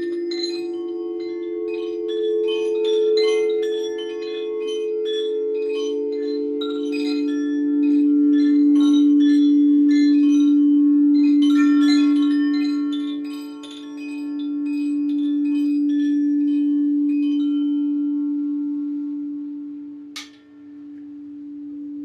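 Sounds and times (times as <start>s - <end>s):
singing bowls sustained tones: 0.0s - 22.0s.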